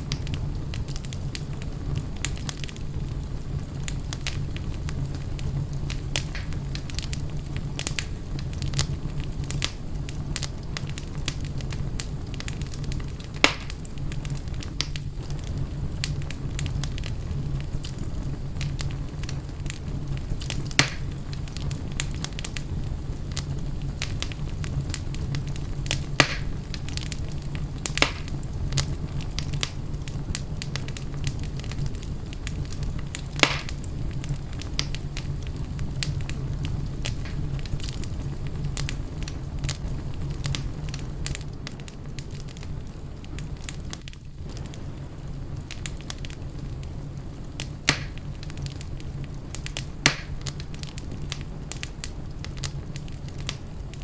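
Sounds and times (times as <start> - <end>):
loud sharp fire pops: 0.0 - 42.6, 43.3 - 54.0
fireplace fire crackling: 0.0 - 54.0.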